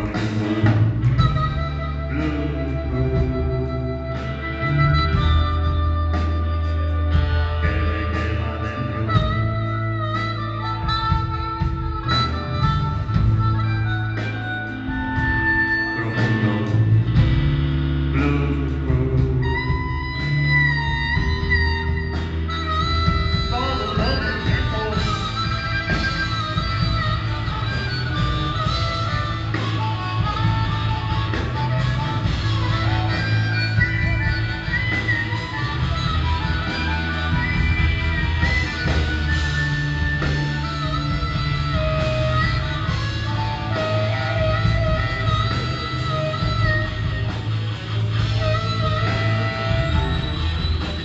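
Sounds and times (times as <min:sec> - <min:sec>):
harmonica held notes: 0:00.0 - 0:51.0
live blues band: 0:00.0 - 0:51.0.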